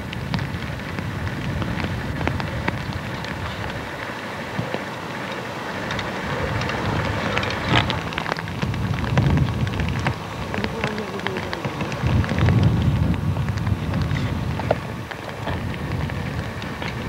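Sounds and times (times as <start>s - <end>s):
light rain pattering: 0.0s - 17.0s
wind rumble on microphone: 0.0s - 17.0s.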